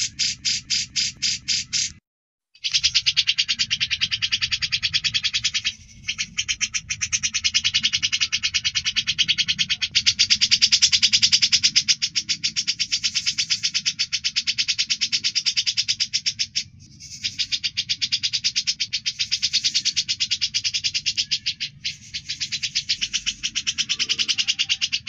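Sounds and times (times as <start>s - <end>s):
songbird rasping trill: 0.0s - 2.0s, 2.6s - 25.0s.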